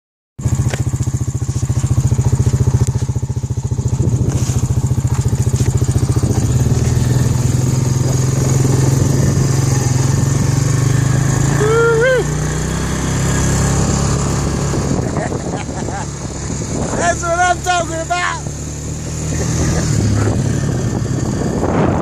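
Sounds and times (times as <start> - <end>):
small engine running: 0.4 - 22.0.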